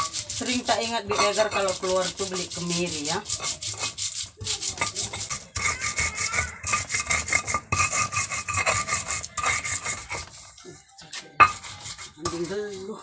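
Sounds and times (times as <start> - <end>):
hands kneading gritty mixture: 0.0 - 13.0.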